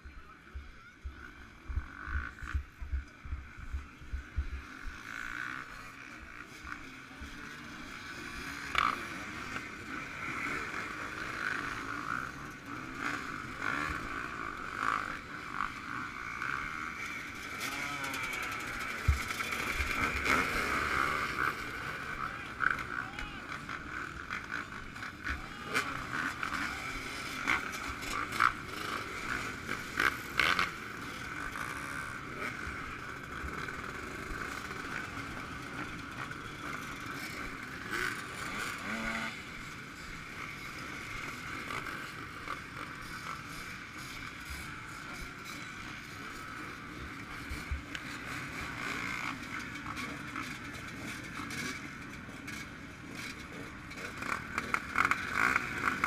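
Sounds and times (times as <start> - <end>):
motocross bike engine running: 0.1 - 56.0.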